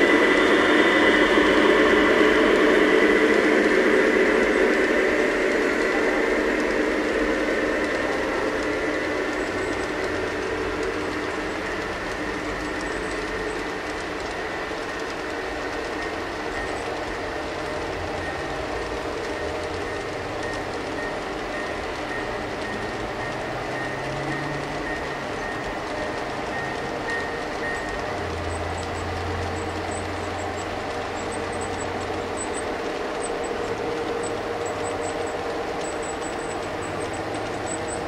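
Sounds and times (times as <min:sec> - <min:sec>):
high whine: 0:00.0 - 0:38.0
model train wheels rumbling: 0:00.0 - 0:38.0.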